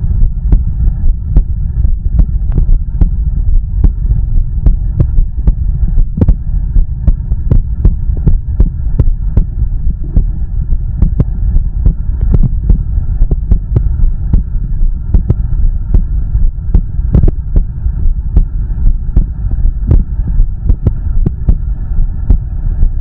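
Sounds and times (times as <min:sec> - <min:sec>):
heartbeat thumps: 0:00.0 - 0:23.0
low rumble and hum: 0:00.0 - 0:23.0.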